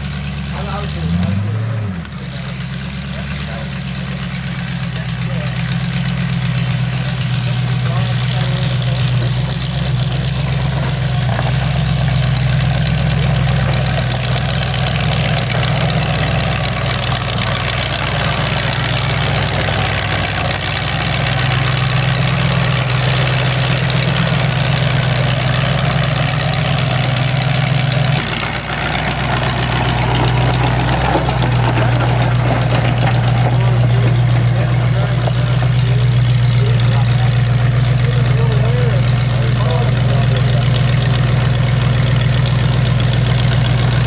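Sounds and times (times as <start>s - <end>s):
car engine idling loudly: 0.0s - 44.0s.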